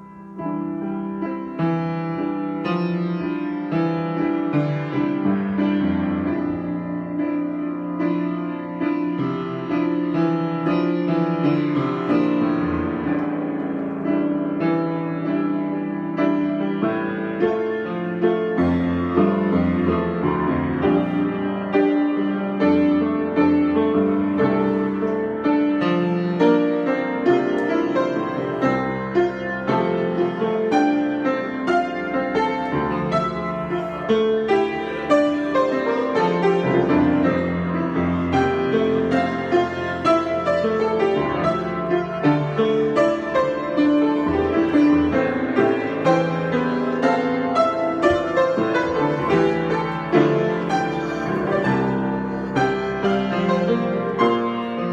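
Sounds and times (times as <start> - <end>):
solo piano playing: 0.0 - 54.9.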